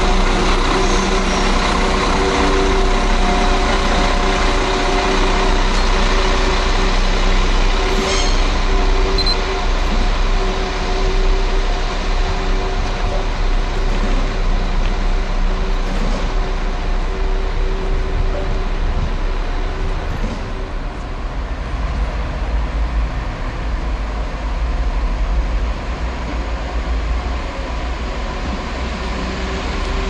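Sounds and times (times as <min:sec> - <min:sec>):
diesel train engine drone: 0:00.0 - 0:30.0.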